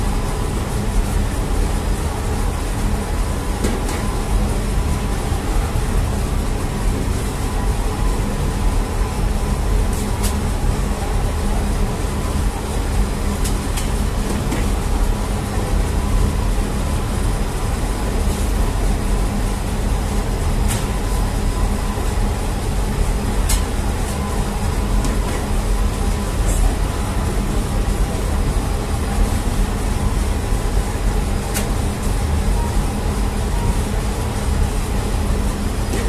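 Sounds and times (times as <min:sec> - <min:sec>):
bread oven and machinery rumbling: 0:00.0 - 0:36.0.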